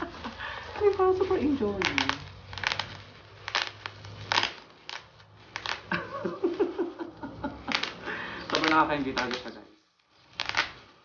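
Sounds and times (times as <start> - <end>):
crisp crackling snaps: 0.0 - 11.0.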